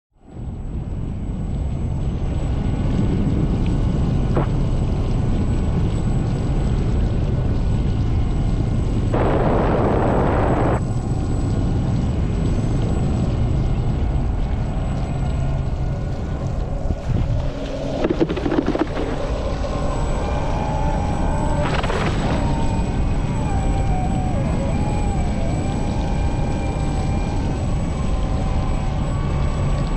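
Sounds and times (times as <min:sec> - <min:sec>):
low motor drone: 0:00.2 - 0:29.9.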